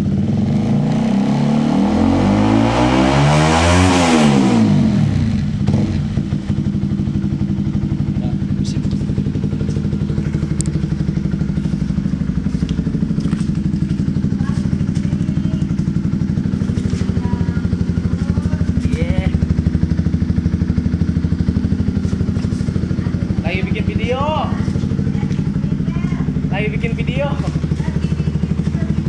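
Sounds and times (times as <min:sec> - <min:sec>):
motorcycle engine idling: 0:00.0 - 0:01.2, 0:04.0 - 0:29.0.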